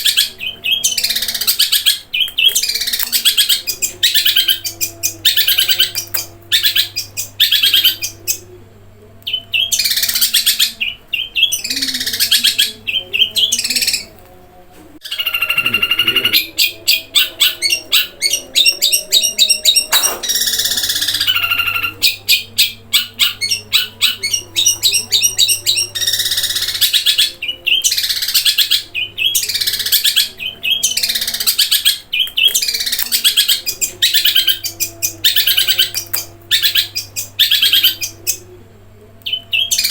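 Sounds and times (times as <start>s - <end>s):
bird singing rolling trills: 0.0s - 14.2s, 15.0s - 39.9s
chirps: 0.0s - 14.2s, 15.0s - 39.9s.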